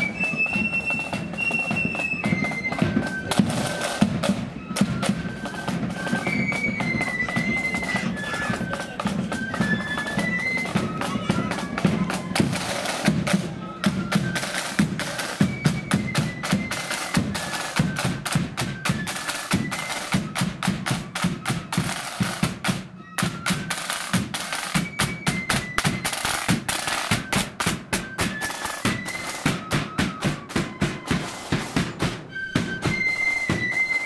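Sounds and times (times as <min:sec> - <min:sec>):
flute band playing: 0:00.0 - 0:34.0
rattling side drums: 0:00.1 - 0:34.0.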